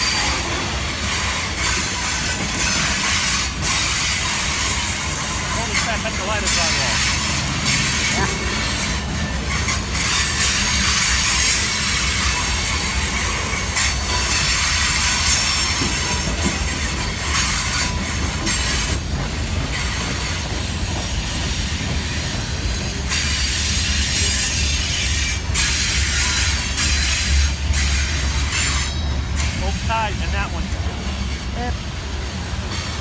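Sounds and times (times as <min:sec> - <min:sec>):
high hiss on rails: 0:00.0 - 0:33.0.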